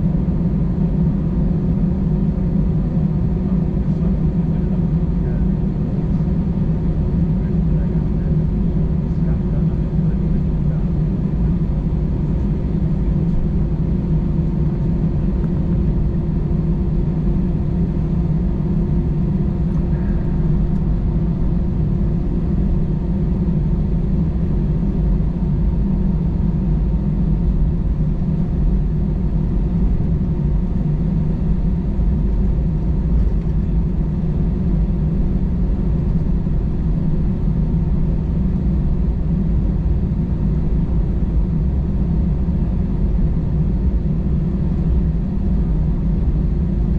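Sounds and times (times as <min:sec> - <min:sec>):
aircraft cabin rumble: 0:00.0 - 0:46.9.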